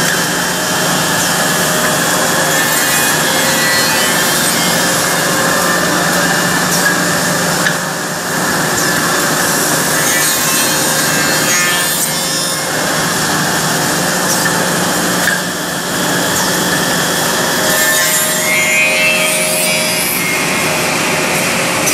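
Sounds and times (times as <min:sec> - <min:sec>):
milling machine cutting wood: 0:00.0 - 0:21.9.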